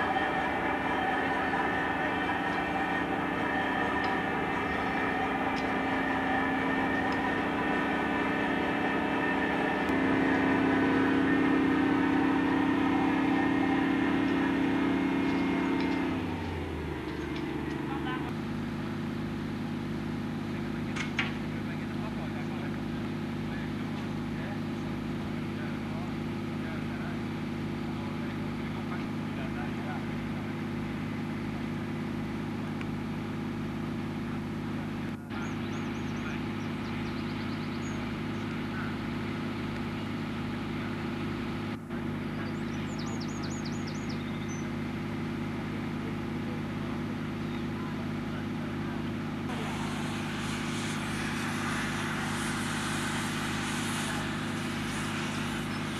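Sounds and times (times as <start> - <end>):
diesel engine running: 0.0 - 55.9
low mechanical hum: 0.0 - 55.9.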